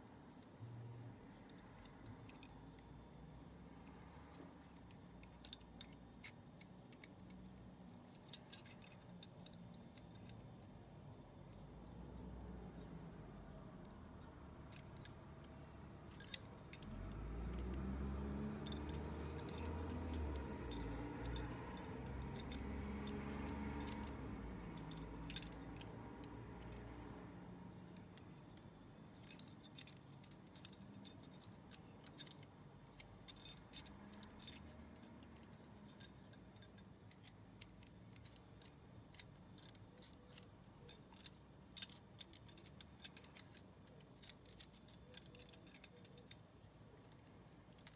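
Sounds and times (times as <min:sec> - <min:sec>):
metal ring clinking against metal box: 0:01.3 - 0:02.9, 0:04.6 - 0:10.7, 0:12.6 - 0:27.1, 0:27.7 - 0:47.9.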